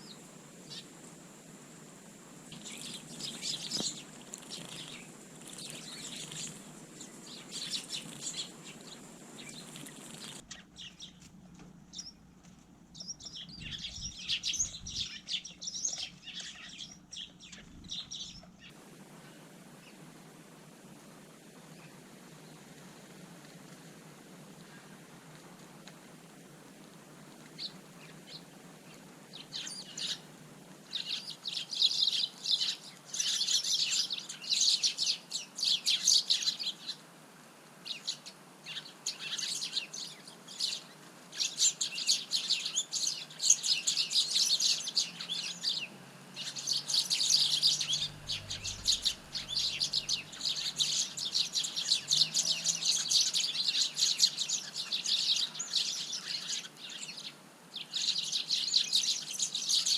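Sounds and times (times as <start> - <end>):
sparrows chirping: 0.0 - 20.0, 27.4 - 37.1, 37.8 - 59.9.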